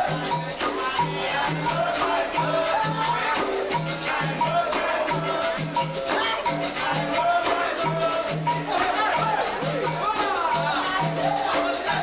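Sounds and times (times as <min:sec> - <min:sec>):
berimbaus struck in rhythm: 0:00.0 - 0:12.0
hand drum: 0:00.0 - 0:12.0
shaker rattling: 0:00.0 - 0:12.0
voices singing: 0:00.0 - 0:12.0.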